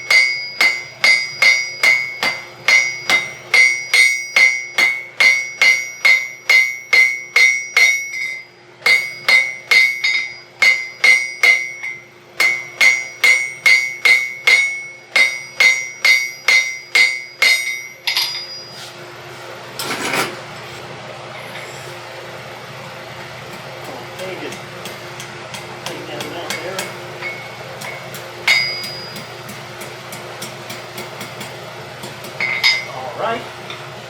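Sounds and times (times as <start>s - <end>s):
hammer ringing on anvil: 0.0s - 18.9s, 23.5s - 33.9s.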